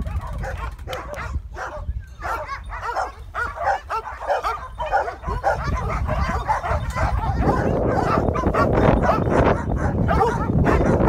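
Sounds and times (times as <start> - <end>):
dogs barking: 0.0 - 11.0
wind rumble on microphone: 0.0 - 11.0.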